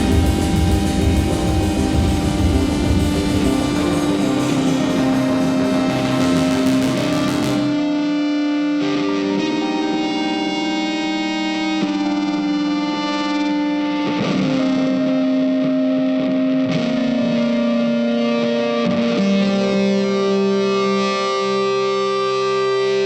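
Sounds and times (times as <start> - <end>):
distorted guitar music: 0.0 - 23.0.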